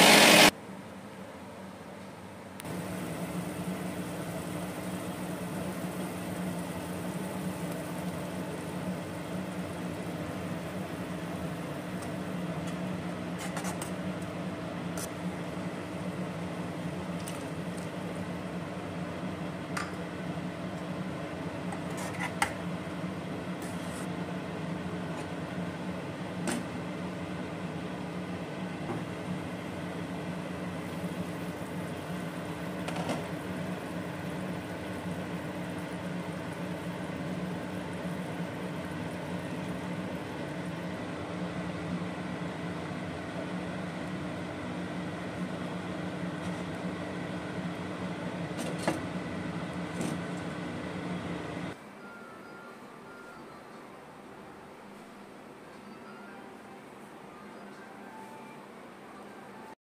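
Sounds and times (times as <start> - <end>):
low mechanical hum: 0.0 - 59.8.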